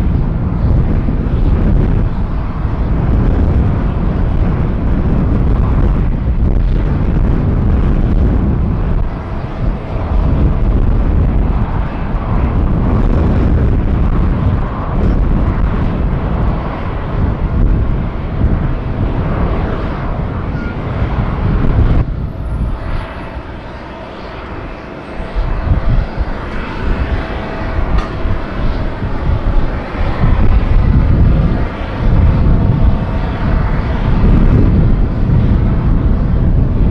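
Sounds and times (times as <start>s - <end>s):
jet engines rumbling with whine: 0.0s - 36.9s.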